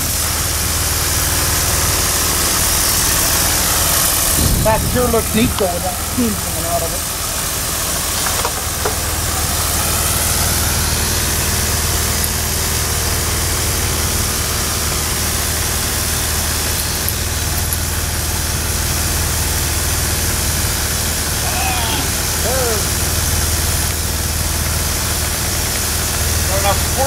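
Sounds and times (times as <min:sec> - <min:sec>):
low steady engine rumble: 0:00.0 - 0:27.0
steam engine hissing: 0:00.0 - 0:27.0.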